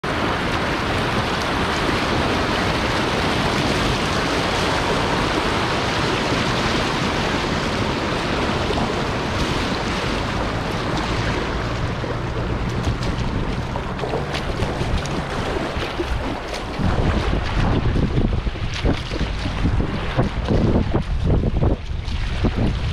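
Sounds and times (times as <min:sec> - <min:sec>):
paddle stroke splashes: 0:00.0 - 0:22.9
whitewater rushing: 0:00.0 - 0:22.9
wind buffeting microphone: 0:00.0 - 0:22.9.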